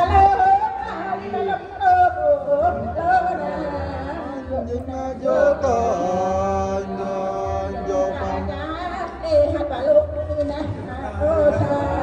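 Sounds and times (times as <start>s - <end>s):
woman singing a chant: 0.0s - 12.0s.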